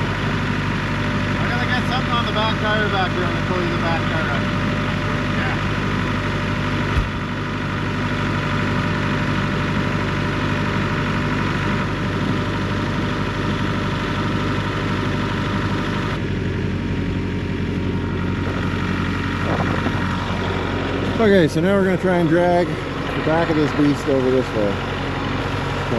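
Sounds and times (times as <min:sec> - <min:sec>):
vehicle engine idling: 0:00.0 - 0:25.9.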